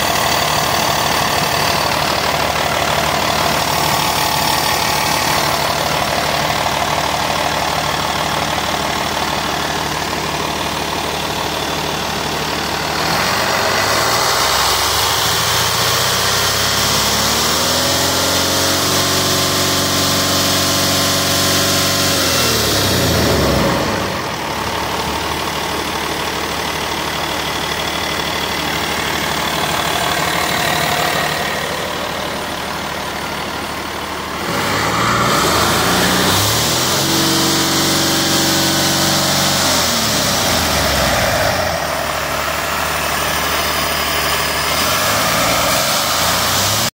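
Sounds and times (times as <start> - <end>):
diesel engine idling and revving: 0.0 - 46.9.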